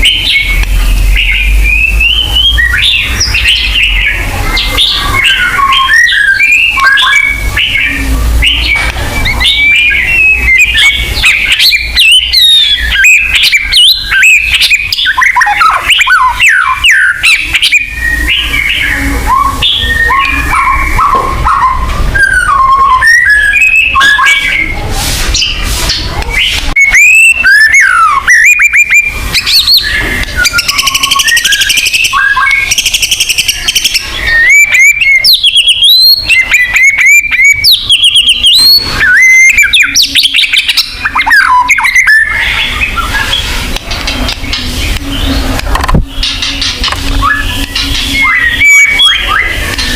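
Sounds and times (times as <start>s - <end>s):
bird singing whistled song: 0.0s - 49.9s.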